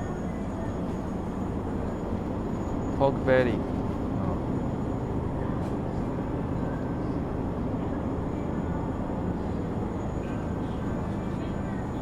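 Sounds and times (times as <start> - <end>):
low rumble of store machinery: 0.0 - 12.0.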